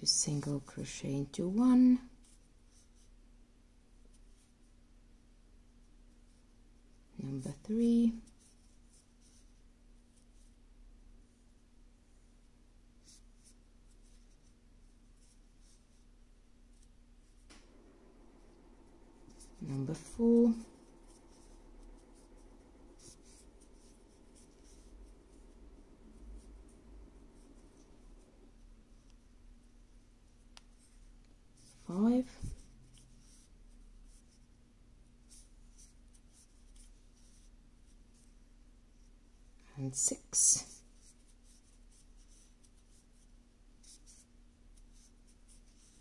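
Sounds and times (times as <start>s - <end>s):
low steady hum: 0.0s - 46.0s
yarn rustling on crochet hook: 6.1s - 10.6s, 13.0s - 46.0s.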